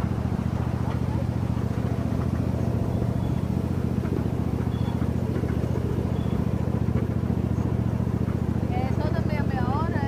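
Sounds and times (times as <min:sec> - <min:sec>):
ride train engine droning: 0:00.0 - 0:10.0.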